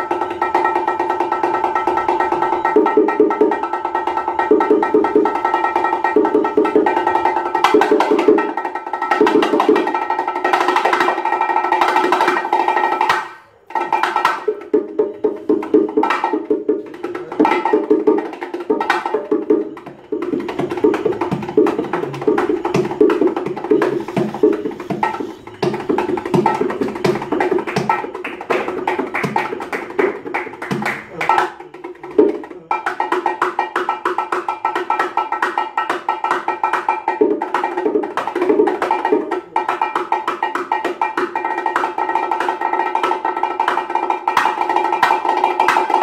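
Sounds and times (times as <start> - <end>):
bongo drums played by hand: 0.0 - 46.0.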